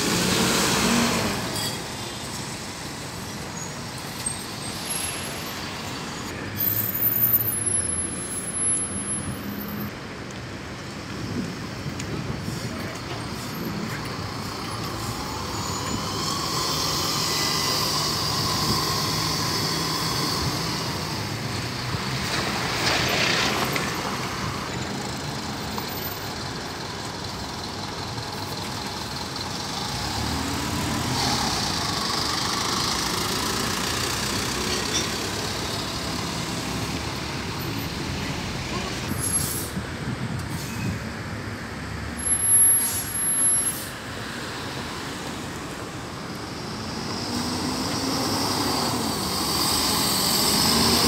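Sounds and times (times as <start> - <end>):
diesel bus engines under load: 0.0 - 51.0.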